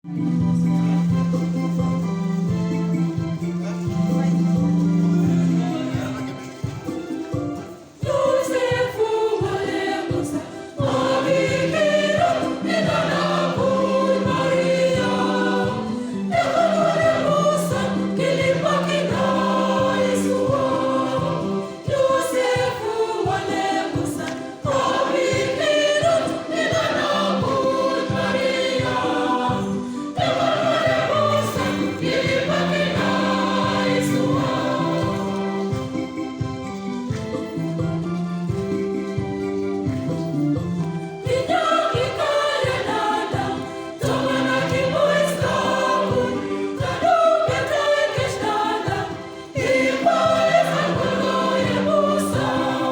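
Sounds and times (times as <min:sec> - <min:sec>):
accompaniment with steady beat: 0:00.0 - 0:52.9
choir singing gospel: 0:00.0 - 0:52.9.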